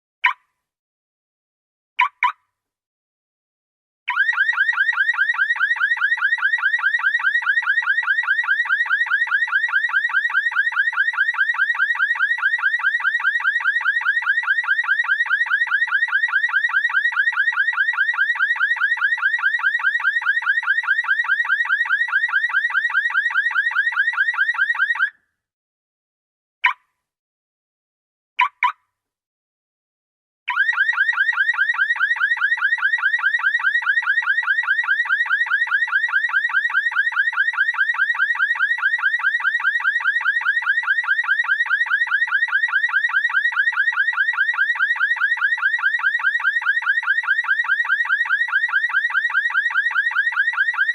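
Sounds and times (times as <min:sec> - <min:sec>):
car alarm siren warbling: 0:04.1 - 0:25.2, 0:30.5 - 0:50.9.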